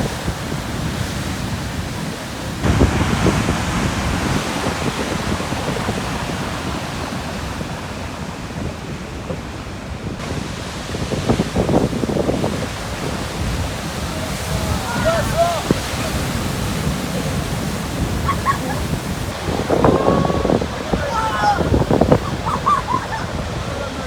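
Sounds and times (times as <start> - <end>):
steady wash of surf: 0.0 - 24.0
waves crashing on rocks: 0.0 - 24.0.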